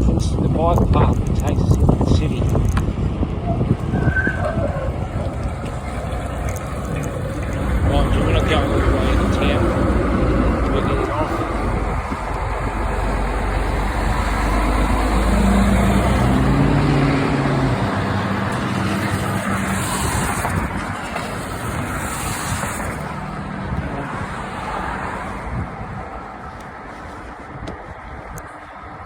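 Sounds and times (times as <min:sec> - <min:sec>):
heavy vehicle engine: 0:00.0 - 0:29.0
road traffic passing: 0:00.0 - 0:29.0.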